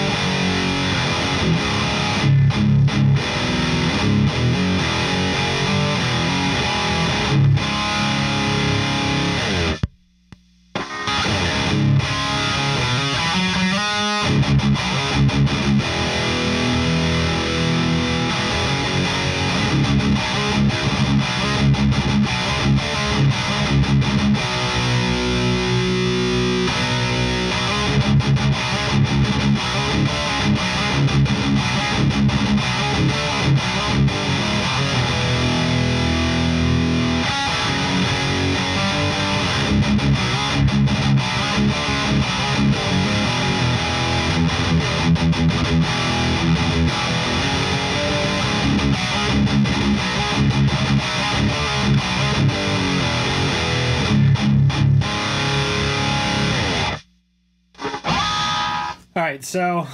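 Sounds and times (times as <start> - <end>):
distorted electric guitar riffs: 0.0 - 59.9.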